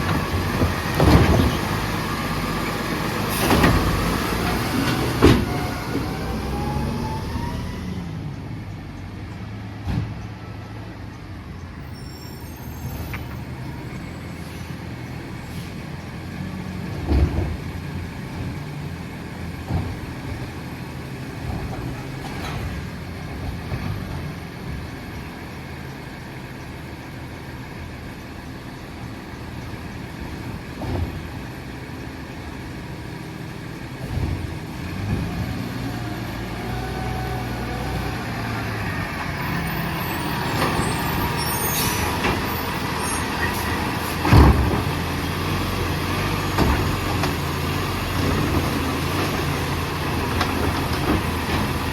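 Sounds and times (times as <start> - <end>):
garbage truck engine running: 0.0 - 8.6, 12.7 - 51.9.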